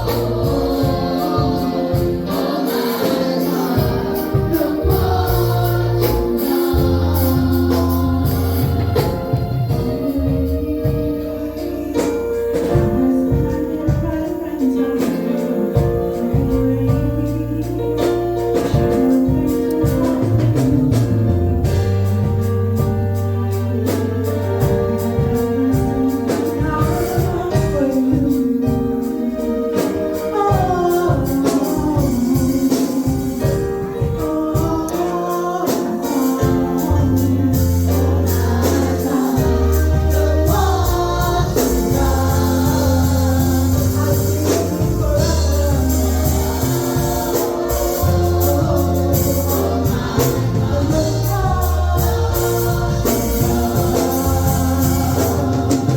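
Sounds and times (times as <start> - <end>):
gospel song with choir: 0.0 - 55.9.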